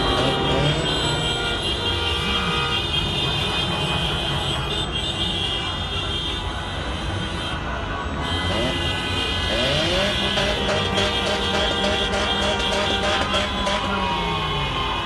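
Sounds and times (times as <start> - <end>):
car horns honking: 0.0 - 15.0
engines and traffic noise: 0.0 - 15.0.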